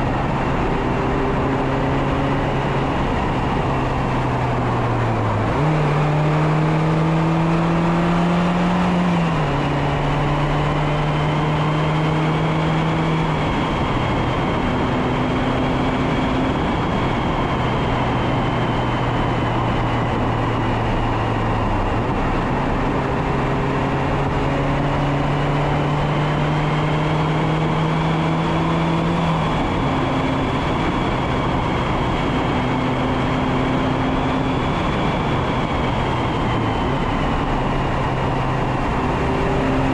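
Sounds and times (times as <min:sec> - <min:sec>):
car engine pulling uphill: 0:00.0 - 0:39.9
wind noise on microphone: 0:00.0 - 0:39.9.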